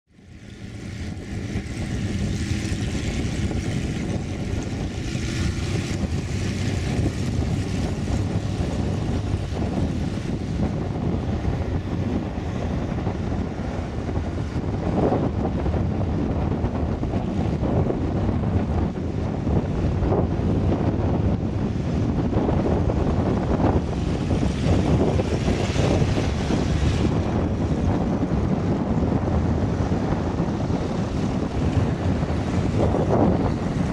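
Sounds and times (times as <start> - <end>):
propeller aircraft engine running: 0.1 - 33.9.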